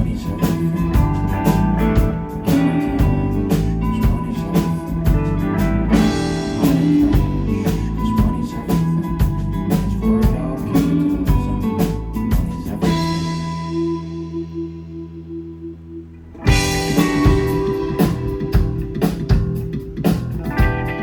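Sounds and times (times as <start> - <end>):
drums with a steady beat: 0.0 - 14.5, 16.4 - 21.0
electric guitar: 0.0 - 21.0.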